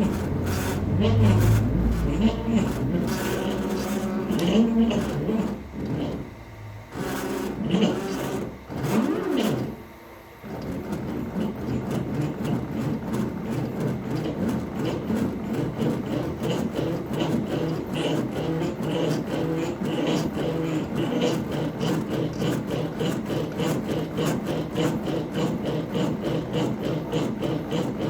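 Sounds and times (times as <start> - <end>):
cnc machine motors whining: 0.0 - 28.0.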